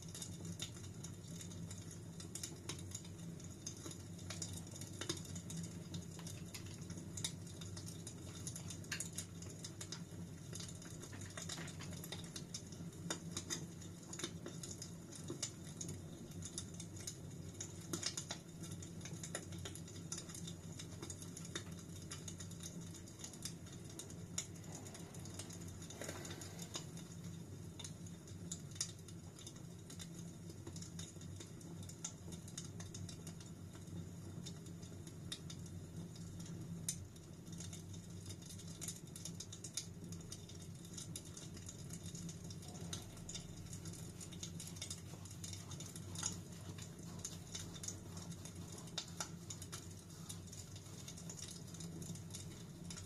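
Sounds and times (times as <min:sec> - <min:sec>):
low rumble of burning fire: 0:00.0 - 0:53.0
wood fire crackling: 0:00.0 - 0:53.0.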